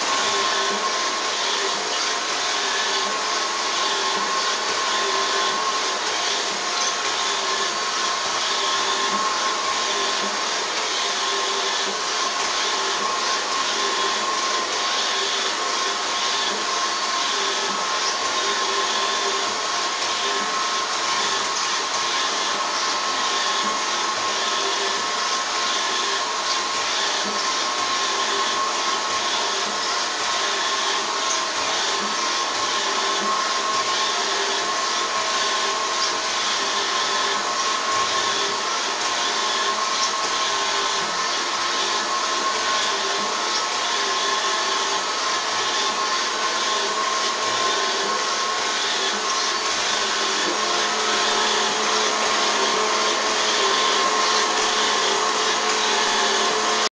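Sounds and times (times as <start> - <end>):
robot vacuum cleaner running: 0.0 - 56.9.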